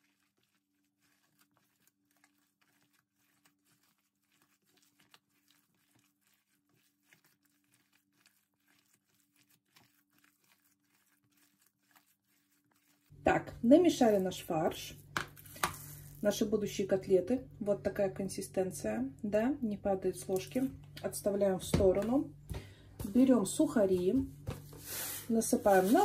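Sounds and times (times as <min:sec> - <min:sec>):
hand kneading meat squelches: 0:00.0 - 0:26.0.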